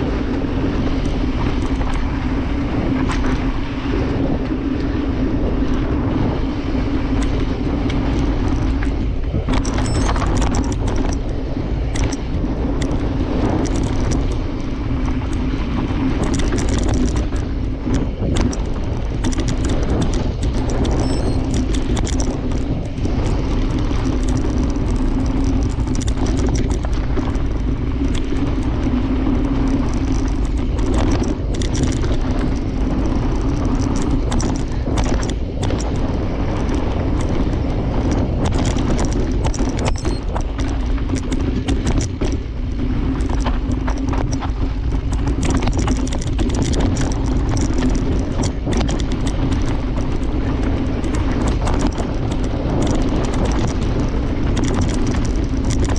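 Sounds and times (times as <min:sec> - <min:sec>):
bike knocking and rattling: 0:00.0 - 0:55.9
tyre and wind noise: 0:00.0 - 0:55.9.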